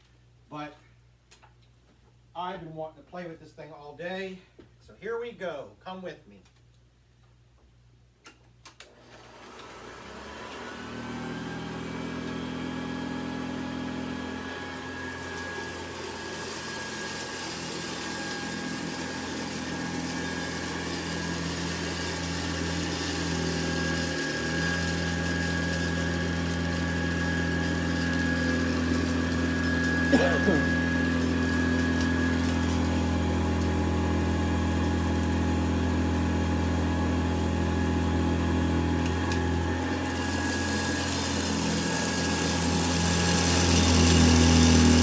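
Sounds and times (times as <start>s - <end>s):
vacuum cleaner motor whining: 8.9s - 45.0s.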